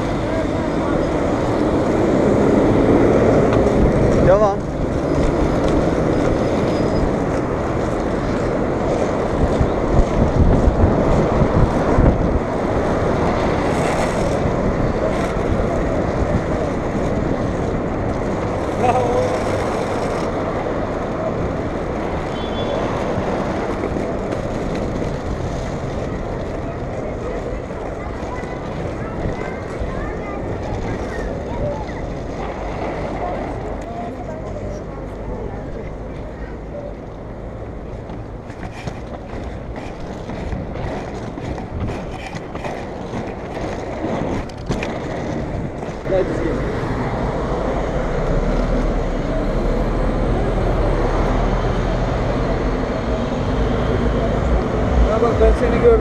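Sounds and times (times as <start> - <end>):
wind on microphone: 0.0 - 35.0, 37.2 - 56.0
passing street traffic: 0.0 - 56.0
skate wheels rolling on asphalt: 0.0 - 56.0.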